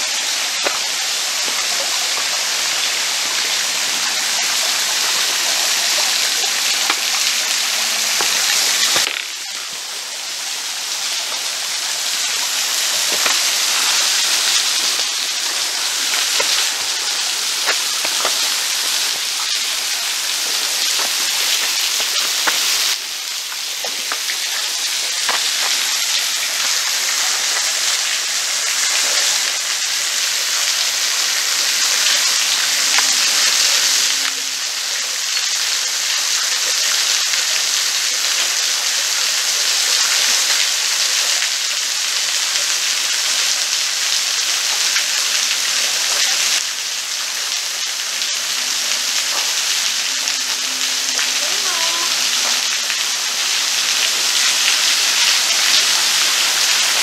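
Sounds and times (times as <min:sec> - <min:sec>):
small waterfall splashing: 0:00.0 - 0:57.0
water drips into pool: 0:04.3 - 0:57.0.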